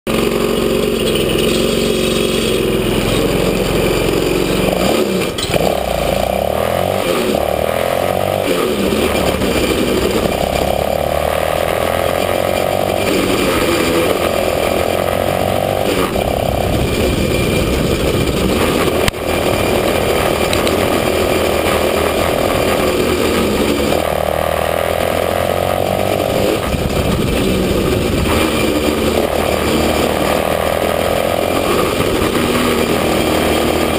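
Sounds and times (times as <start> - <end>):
small engine revving: 0.1 - 33.9.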